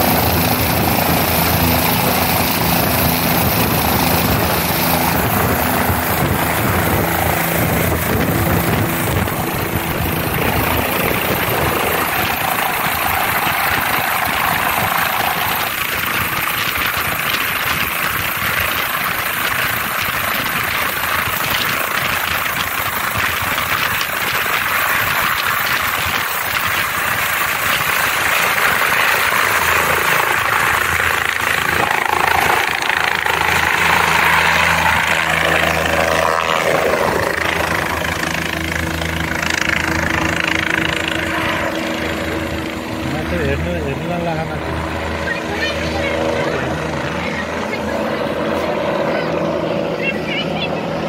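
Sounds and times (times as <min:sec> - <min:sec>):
helicopter turbine and rotor: 0:00.0 - 0:51.0.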